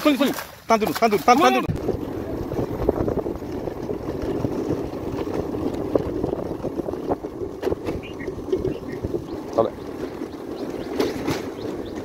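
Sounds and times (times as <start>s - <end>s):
scooter engine running: 1.6s - 12.0s.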